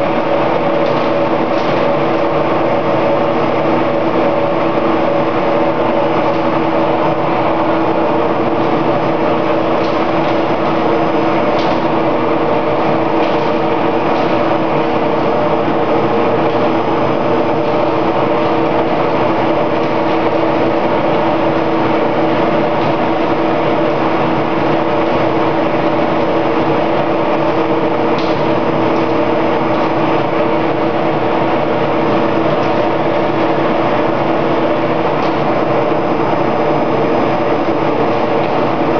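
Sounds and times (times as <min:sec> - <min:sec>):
press machinery humming: 0:00.0 - 0:38.9.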